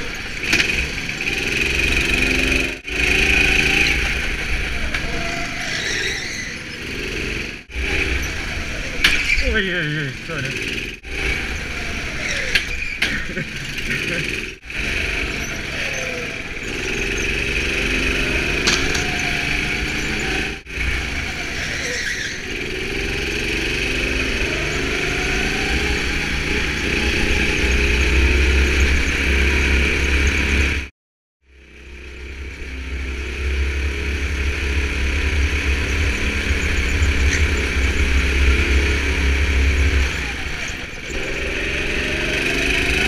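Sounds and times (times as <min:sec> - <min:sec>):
go-kart engine accelerating: 0:00.0 - 0:30.9, 0:31.5 - 0:43.0.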